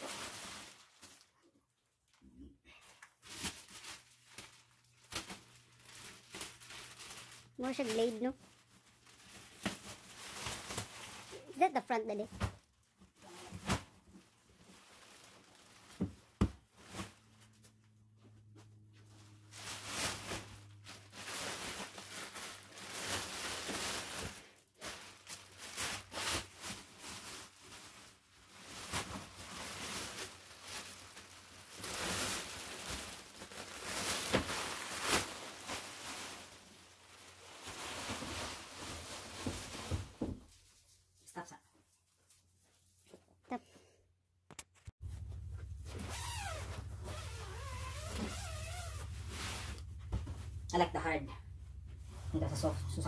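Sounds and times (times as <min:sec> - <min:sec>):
mattress and plastic rustling: 0:00.0 - 0:01.5, 0:03.0 - 0:41.1, 0:44.6 - 0:53.0.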